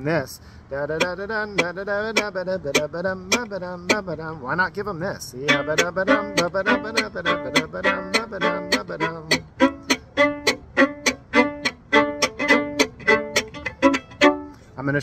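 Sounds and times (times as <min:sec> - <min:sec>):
fiddle chop rhythm: 0:00.0 - 0:15.0.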